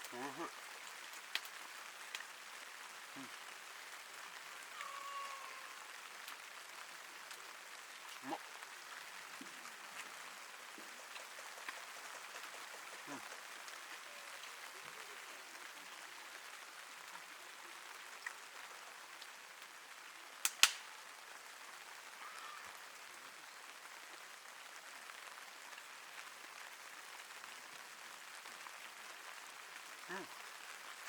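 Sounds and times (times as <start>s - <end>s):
rain pattering on a tent: 0.0s - 31.0s.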